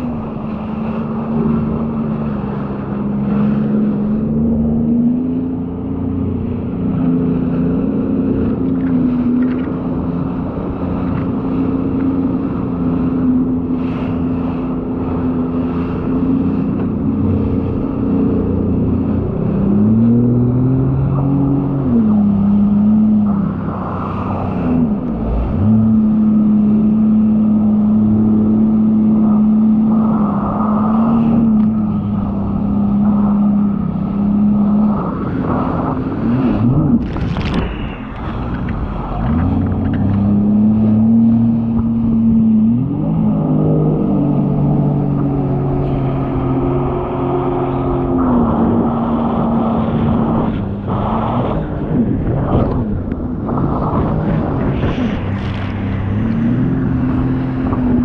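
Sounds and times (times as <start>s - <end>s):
watercraft engine running: 0.0s - 58.0s.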